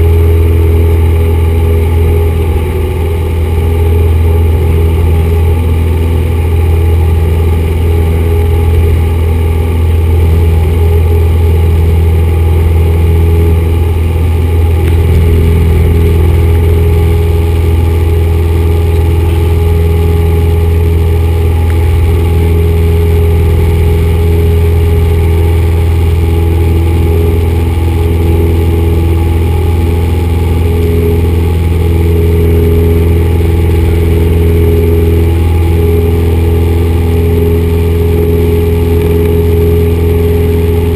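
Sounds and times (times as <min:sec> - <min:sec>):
airplane engine droning in cabin: 0:00.0 - 0:40.9.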